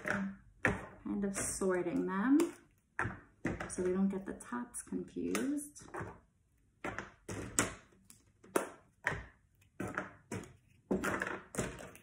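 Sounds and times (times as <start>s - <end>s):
plastic eggs clicking and tapping: 0.0s - 4.0s, 5.2s - 12.0s.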